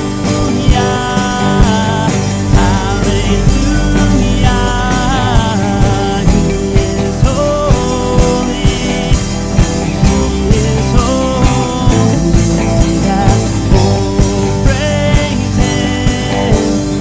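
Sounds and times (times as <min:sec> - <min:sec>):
acoustic guitar: 0:00.0 - 0:17.0
bass guitar: 0:00.0 - 0:17.0
drum kit beat: 0:00.0 - 0:17.0
electric guitar: 0:00.0 - 0:17.0
person singing lead: 0:00.0 - 0:17.0.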